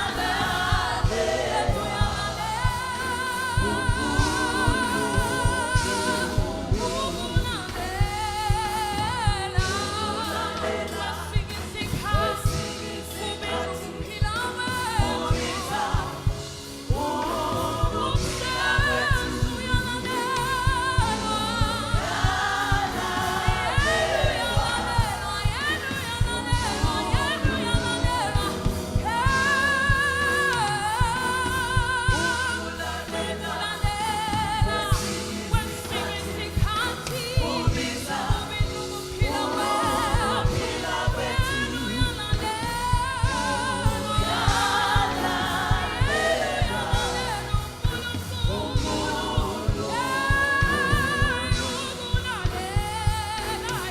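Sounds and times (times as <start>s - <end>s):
band with steady drum beat: 0.0s - 53.9s
gospel singing with vibrato: 0.0s - 53.9s.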